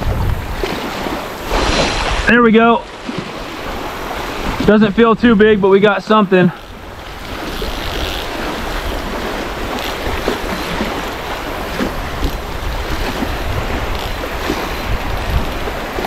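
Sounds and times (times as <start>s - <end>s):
waves washing on shore: 0.0s - 16.0s
wind buffeting microphone: 0.0s - 16.0s.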